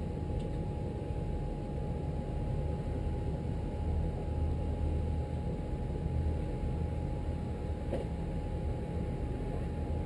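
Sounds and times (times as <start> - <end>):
faint constant hum: 0.0 - 10.0.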